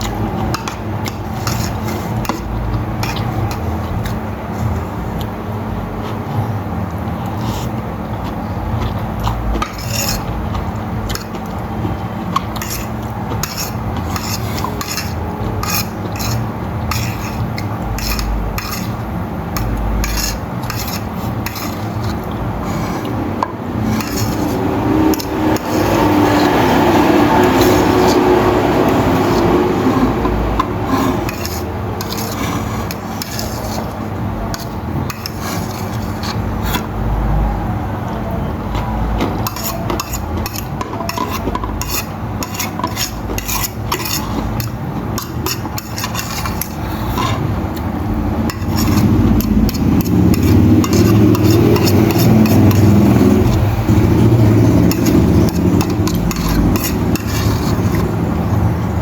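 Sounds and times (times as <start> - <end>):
metal utensil scraping a pan: 0.0 - 4.7, 8.4 - 36.9, 39.2 - 58.7.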